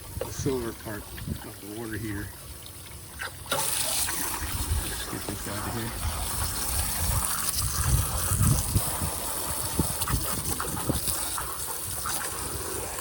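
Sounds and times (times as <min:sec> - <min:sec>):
water gushing and splashing: 0:00.0 - 0:13.0.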